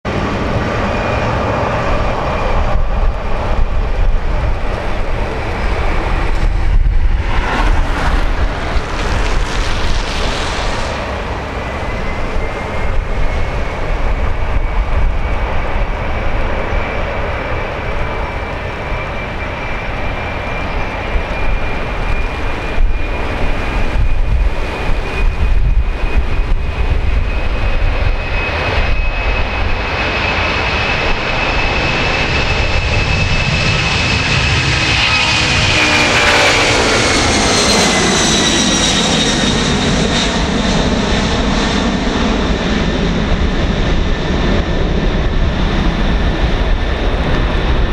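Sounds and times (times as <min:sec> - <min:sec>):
jet engine roar: 0:00.0 - 0:47.9.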